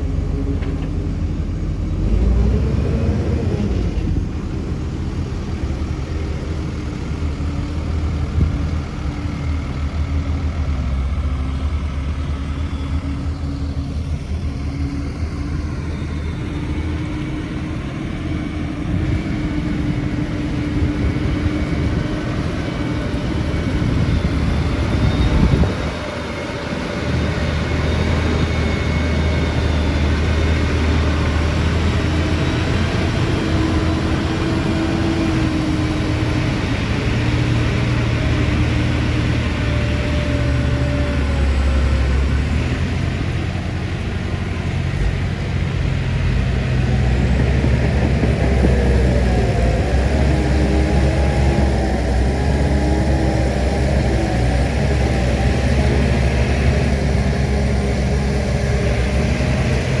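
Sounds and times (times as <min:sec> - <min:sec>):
heavy diesel engine running: 0:00.0 - 1:00.0.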